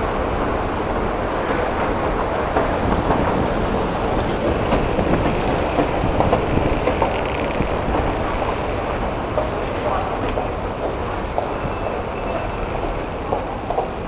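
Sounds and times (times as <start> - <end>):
underground station rumble: 0.0 - 14.0.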